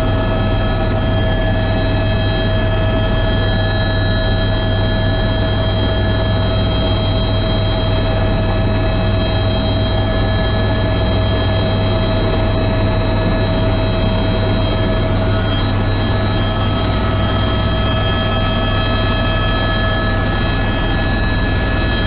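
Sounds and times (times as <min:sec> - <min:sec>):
helicopter cabin low hum: 0:00.0 - 0:22.0
high-pitched turbine whines: 0:00.0 - 0:22.0.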